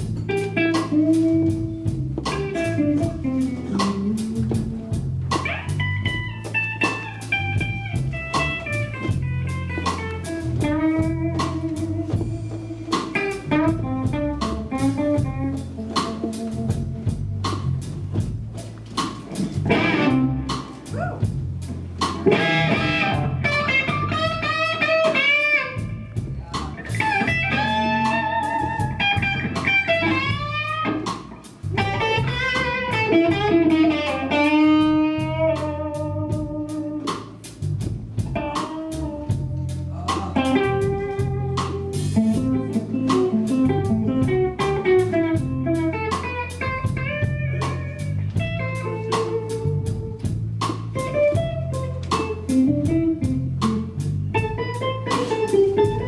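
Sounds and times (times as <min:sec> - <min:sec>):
bass guitar: 0:00.0 - 0:56.0
drums: 0:00.0 - 0:56.0
electric guitar solo: 0:00.2 - 0:16.8, 0:19.6 - 0:21.3, 0:22.2 - 0:37.1, 0:38.4 - 0:50.3, 0:50.9 - 0:56.0.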